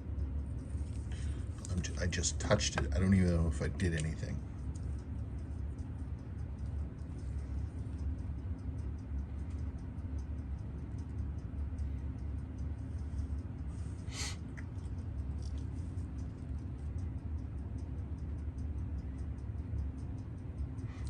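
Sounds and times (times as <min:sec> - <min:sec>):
steady low hum: 0:00.0 - 0:21.0
fast faint ticking: 0:00.1 - 0:21.0.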